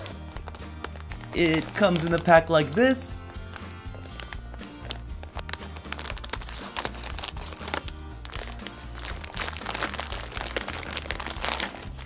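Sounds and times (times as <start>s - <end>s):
background music with bass: 0.0s - 12.0s
plastic bag crinkling: 0.0s - 12.0s.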